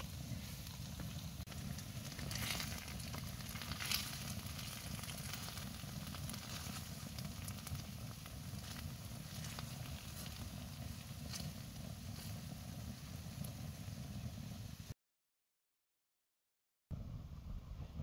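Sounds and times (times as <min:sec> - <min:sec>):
low steady rumble: 0:00.0 - 0:14.9, 0:16.9 - 0:18.0
wood stove crackling and sizzling: 0:00.0 - 0:15.0.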